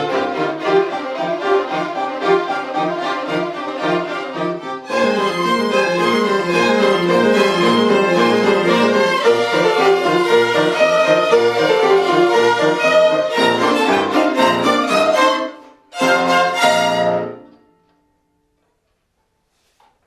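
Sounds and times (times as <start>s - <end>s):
violins playing: 0.0s - 17.6s.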